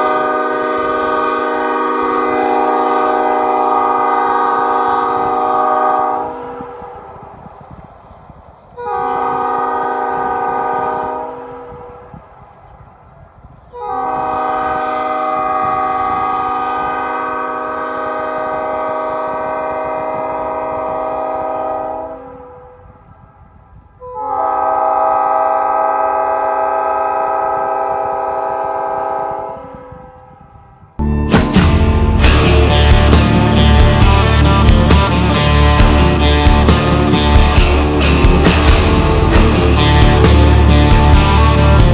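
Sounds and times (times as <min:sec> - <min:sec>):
train horn chord blasts: 0:00.0 - 0:07.4, 0:08.7 - 0:12.2, 0:13.7 - 0:23.0, 0:24.0 - 0:41.9.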